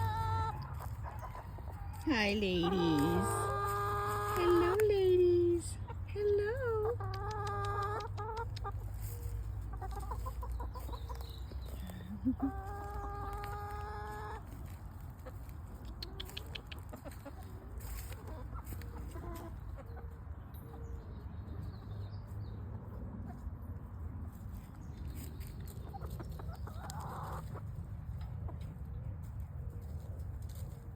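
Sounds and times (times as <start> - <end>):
hens clucking: 0.0 - 20.3, 24.5 - 30.2.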